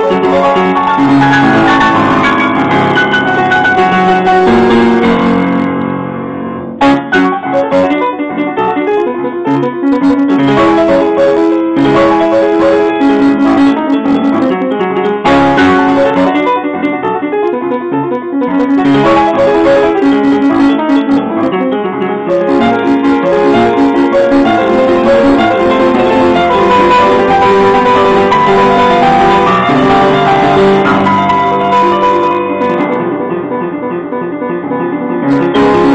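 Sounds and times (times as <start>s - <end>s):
solo piano playing fast: 0.0s - 35.9s.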